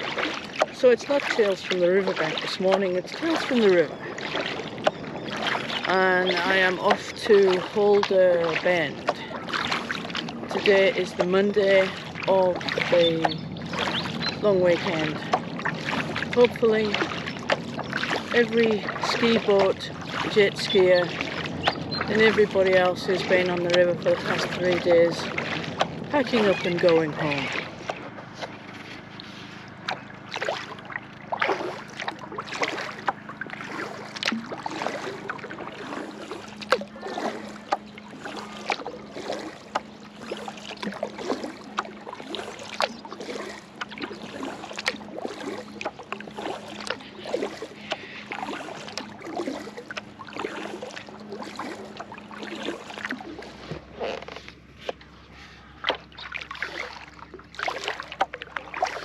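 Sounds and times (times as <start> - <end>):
paddle strokes splashing water: 0.0 - 59.0.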